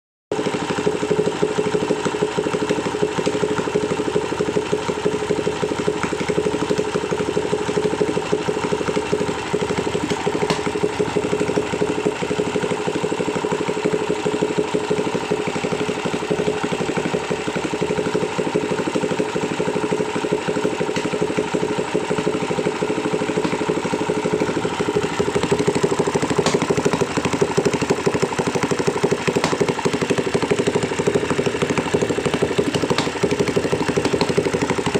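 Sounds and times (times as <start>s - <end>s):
motorcycle engine idling: 0.3s - 34.9s.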